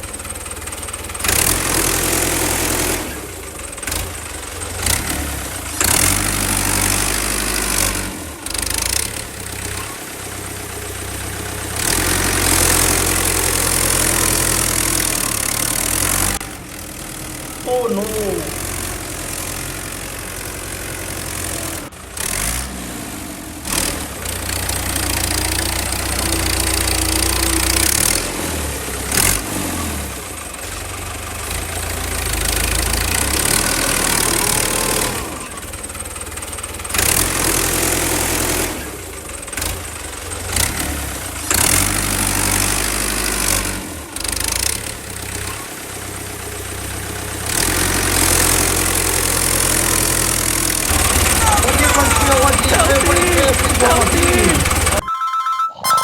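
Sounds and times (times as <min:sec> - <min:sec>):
engine knocking idle rumble: 0:00.0 - 0:17.6, 0:24.1 - 0:29.2, 0:30.1 - 0:43.4, 0:44.0 - 0:55.0.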